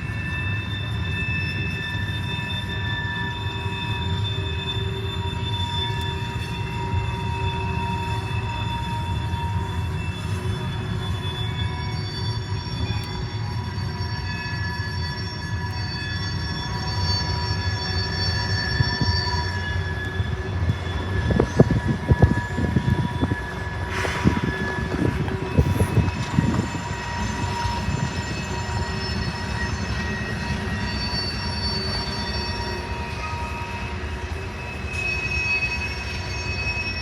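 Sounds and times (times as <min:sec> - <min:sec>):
freight train wheels squealing: 0:00.0 - 0:37.0
rail cars clanking and knocking: 0:00.0 - 0:37.0.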